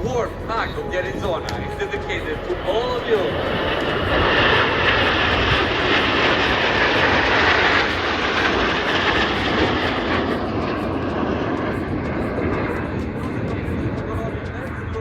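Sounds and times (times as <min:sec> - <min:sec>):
jets passing overhead: 0:00.0 - 0:15.0.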